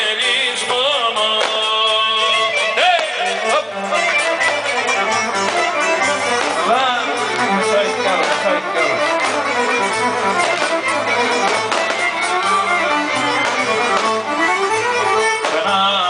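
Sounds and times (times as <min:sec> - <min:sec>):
folk music accompaniment: 0:00.0 - 0:16.0
violin melody: 0:00.0 - 0:16.0.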